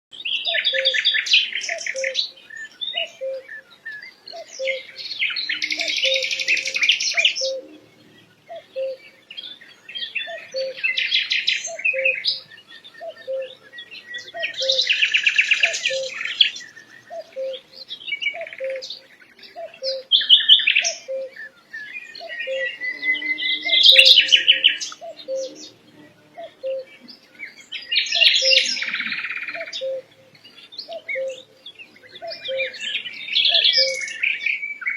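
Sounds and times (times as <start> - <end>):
songbird trilling and chirping: 0.2 - 34.9.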